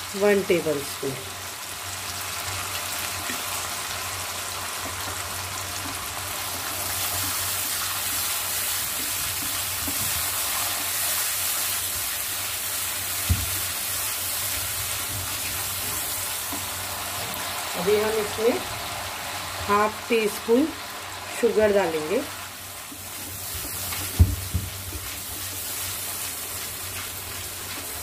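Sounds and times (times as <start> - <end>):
garlic sizzling in hot oil: 0.0 - 28.0.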